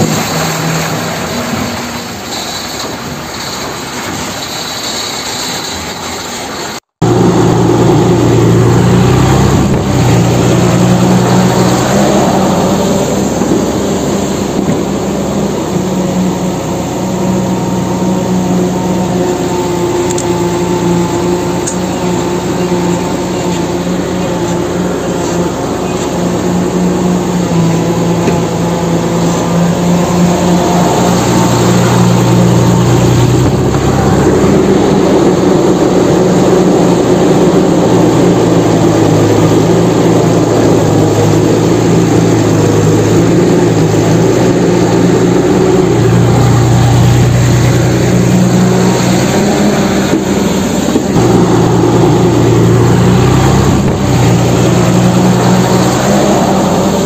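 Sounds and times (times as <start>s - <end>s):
rough rumbling noise: 0.0s - 57.0s
truck engine running: 0.0s - 57.0s.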